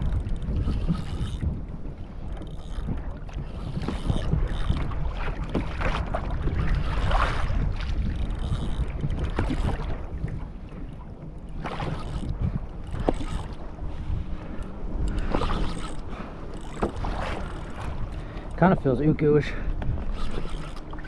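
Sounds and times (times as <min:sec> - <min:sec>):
water sloshing against hull: 0:00.0 - 0:21.0
wind buffeting microphone: 0:00.0 - 0:21.0.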